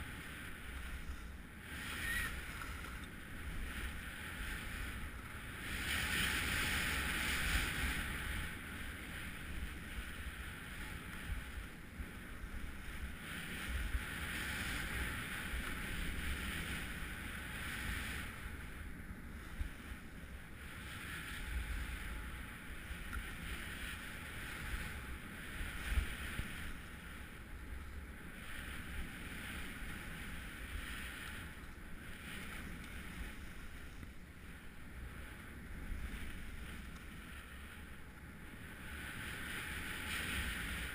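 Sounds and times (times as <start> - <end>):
skis scraping over snow: 0.0 - 40.9.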